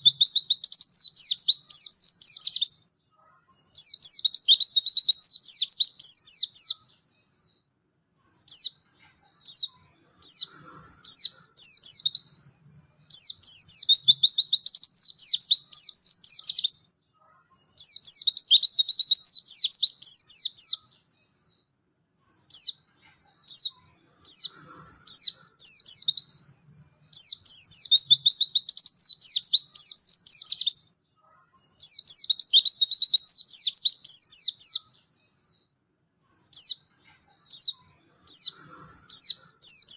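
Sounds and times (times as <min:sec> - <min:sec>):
bird twittering high chirps: 0:00.0 - 0:39.9.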